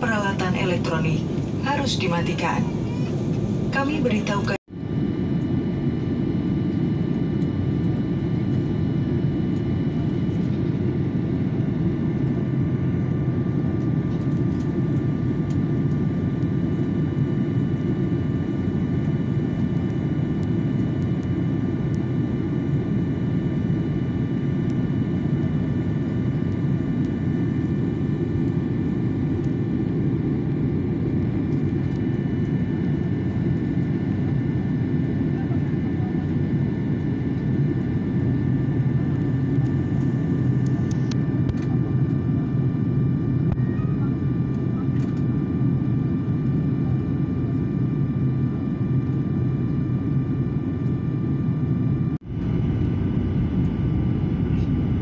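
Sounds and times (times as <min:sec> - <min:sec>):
jet engines and airflow rushing: 0:00.0 - 0:55.0.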